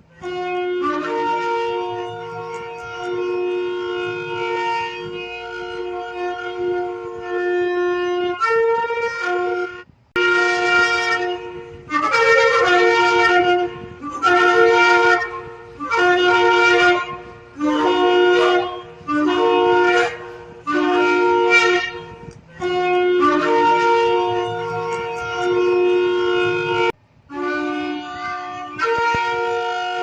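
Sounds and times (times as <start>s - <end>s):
shofar blasts: 0.0s - 30.0s.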